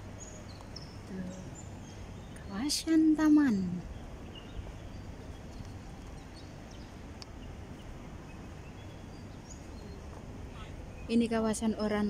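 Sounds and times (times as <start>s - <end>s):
faint bird chirps: 0.0s - 12.0s
outdoor background hum: 0.0s - 12.0s.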